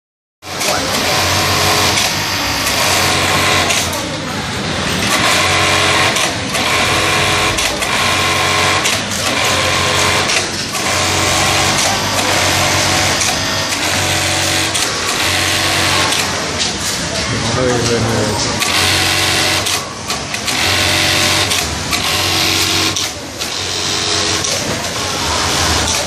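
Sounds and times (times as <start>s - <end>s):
industrial sewing machines running: 0.5s - 26.0s.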